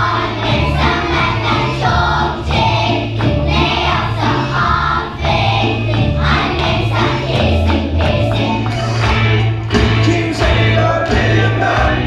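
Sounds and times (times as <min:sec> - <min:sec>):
children's choir singing: 0:00.0 - 0:12.0
instrumental accompaniment with bass: 0:00.0 - 0:12.0.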